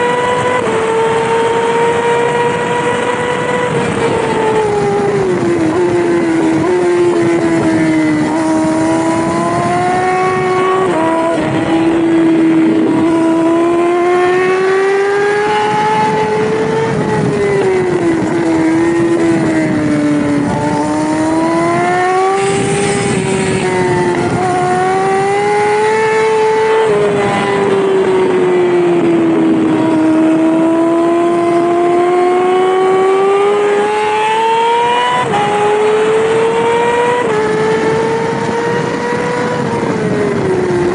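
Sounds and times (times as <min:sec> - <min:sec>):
racing motorcycle engine: 0:00.0 - 0:40.9
wind rush: 0:00.0 - 0:40.9.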